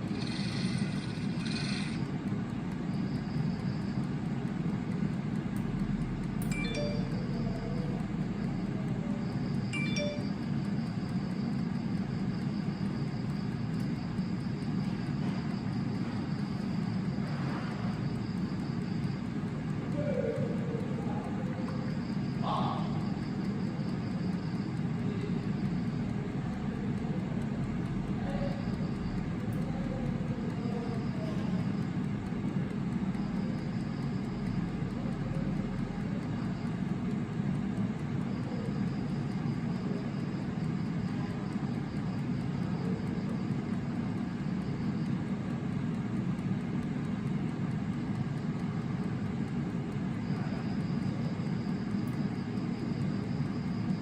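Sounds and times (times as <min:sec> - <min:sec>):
air fryer fan humming: 0:00.0 - 0:54.0.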